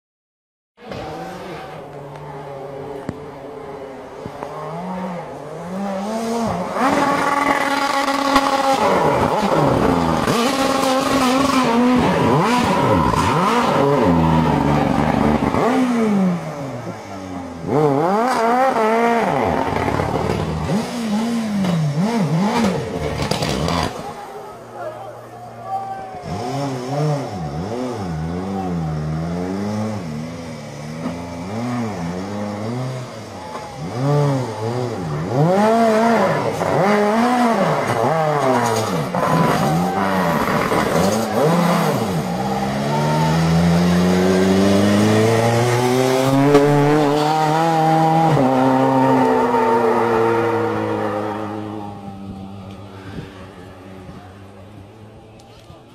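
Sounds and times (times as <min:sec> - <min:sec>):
rally car engine revving: 0:00.8 - 0:24.8, 0:26.1 - 0:55.2.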